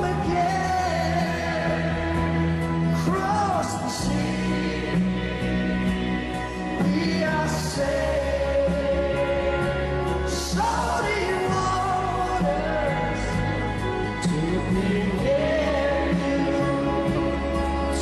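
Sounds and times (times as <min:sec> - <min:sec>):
song with sustained vocals: 0:00.0 - 0:18.0.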